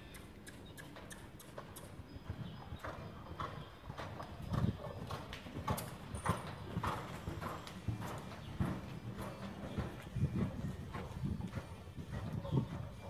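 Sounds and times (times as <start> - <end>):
horse hooves on dirt: 0.0 - 13.0.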